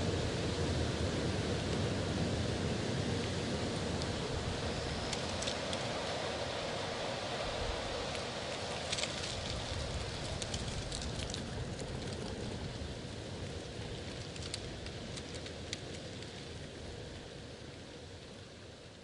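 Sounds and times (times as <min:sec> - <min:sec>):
rustling leaves: 0:00.0 - 0:19.0
wind: 0:00.0 - 0:19.0
light crackles: 0:00.3 - 0:19.0.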